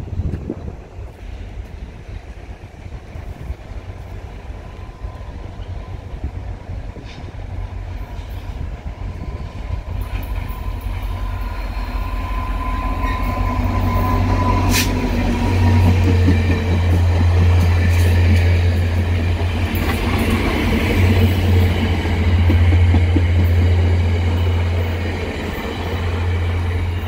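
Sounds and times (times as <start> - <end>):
diesel train rumble: 0.0 - 27.0.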